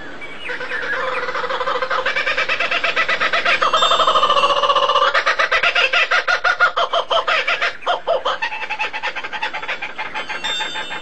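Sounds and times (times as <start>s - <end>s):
bird calling rapid notes: 0.4s - 11.0s.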